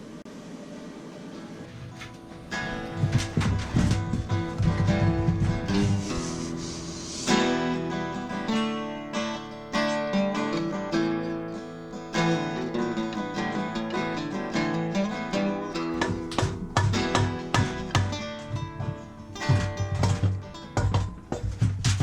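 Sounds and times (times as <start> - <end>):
acoustic guitar picked and strummed: 1.1 - 22.0.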